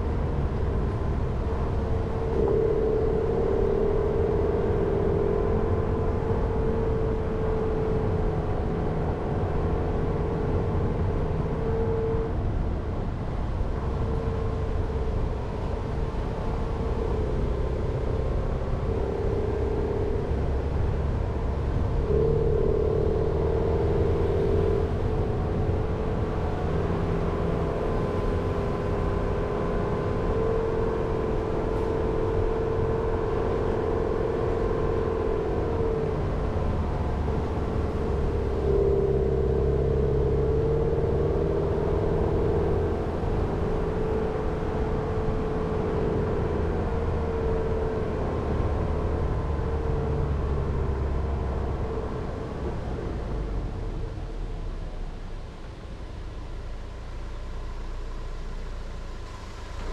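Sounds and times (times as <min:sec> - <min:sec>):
car engine drone: 0:00.0 - 0:59.9
mid-pitched hum: 0:00.0 - 0:59.9
road rumble: 0:00.0 - 0:59.9.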